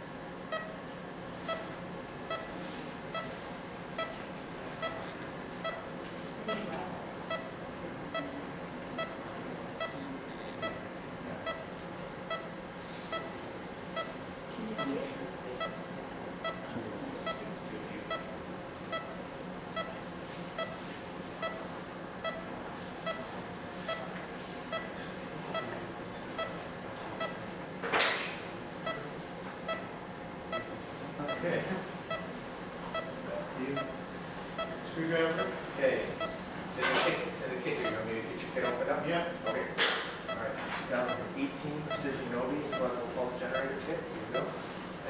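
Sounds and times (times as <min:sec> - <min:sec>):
room equipment hum: 0:00.0 - 0:45.0
patient monitor pulse beeps: 0:00.4 - 0:45.0.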